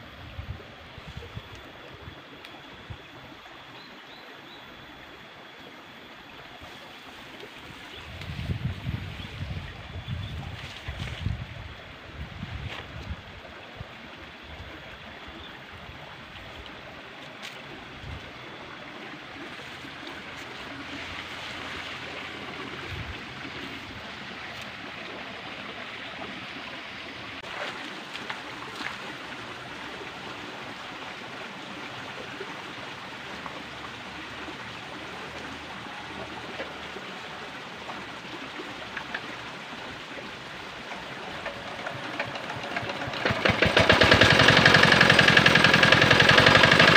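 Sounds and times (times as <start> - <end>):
water running in a ditch: 0.0 - 46.9.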